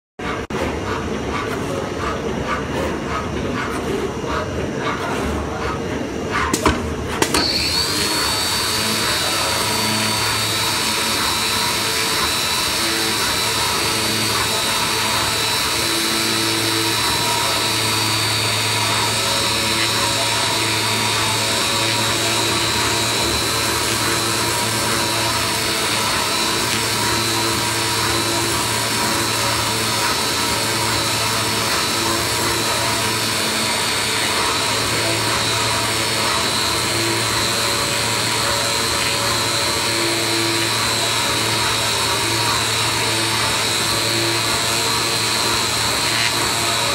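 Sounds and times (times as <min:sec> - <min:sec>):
low machine hum: 0:00.2 - 0:46.9
high whine with hiss: 0:06.1 - 0:46.9.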